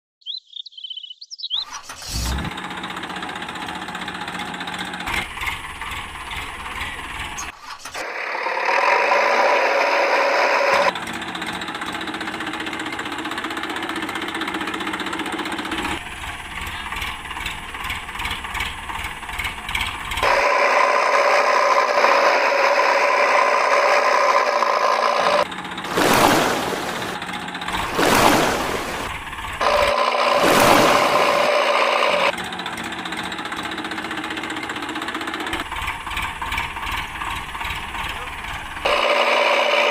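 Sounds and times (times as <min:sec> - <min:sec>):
engine running: 0:01.7 - 0:39.9.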